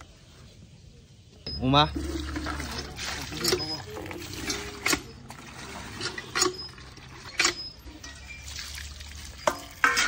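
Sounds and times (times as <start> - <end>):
water splashing in metal pan: 1.9 - 10.0.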